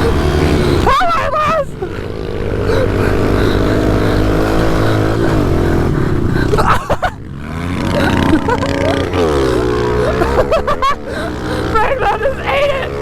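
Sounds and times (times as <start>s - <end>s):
pit bike engines revving: 0.0s - 13.0s.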